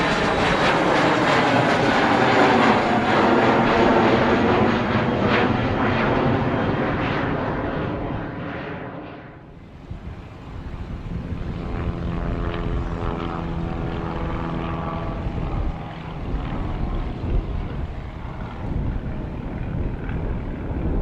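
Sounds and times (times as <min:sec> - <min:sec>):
aircraft engine droning: 0:00.0 - 0:21.0.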